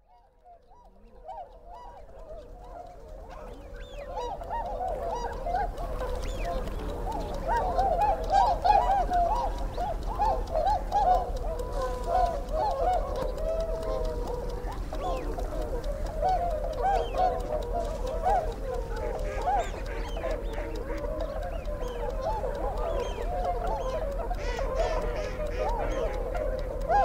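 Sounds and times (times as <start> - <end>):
chorus of bird calls: 0.0 - 27.0.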